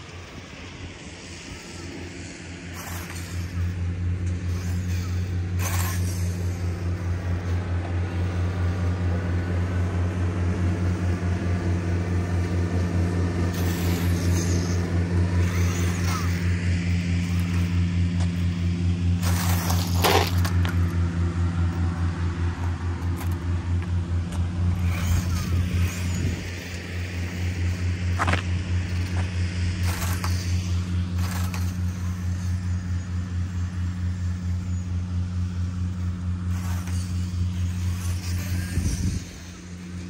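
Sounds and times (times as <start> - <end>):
pulsing low hum: 0.0 - 40.0
rc truck motor and tyres: 0.0 - 40.0.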